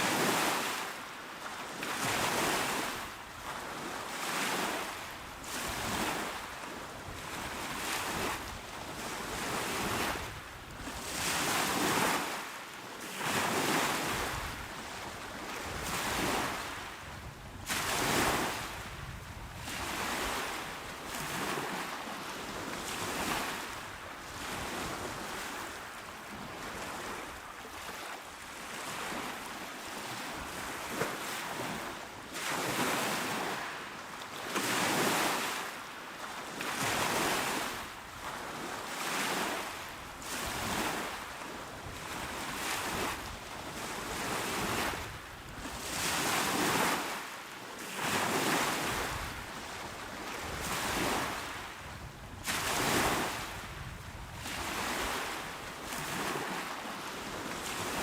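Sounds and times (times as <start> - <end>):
waves washing onto shore: 0.0 - 58.0.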